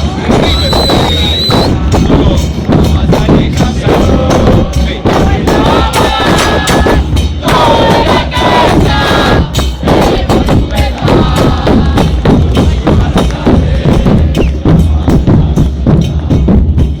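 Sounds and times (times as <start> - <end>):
bass drums: 0.0 - 17.0
cymbals: 0.0 - 17.0
repique drums: 0.0 - 17.0.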